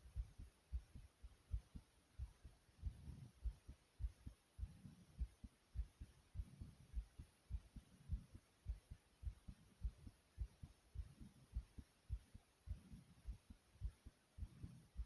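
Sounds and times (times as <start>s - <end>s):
fast heartbeat thumps: 0.0s - 15.0s.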